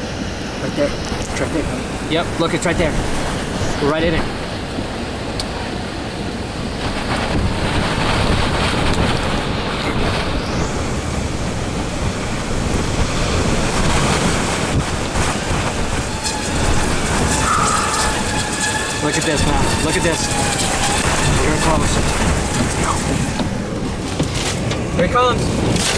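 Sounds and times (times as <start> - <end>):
strong wind on microphone: 0.0 - 25.9.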